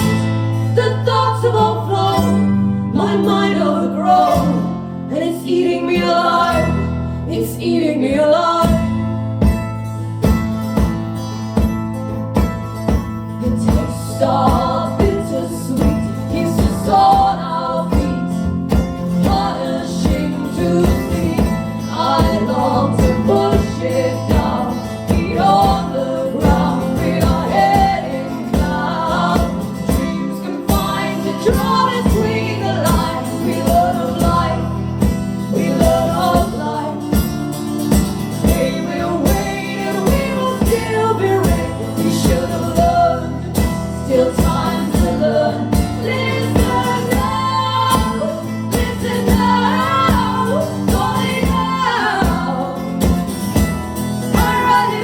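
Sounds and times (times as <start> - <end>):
live band with singing: 0.0 - 55.0.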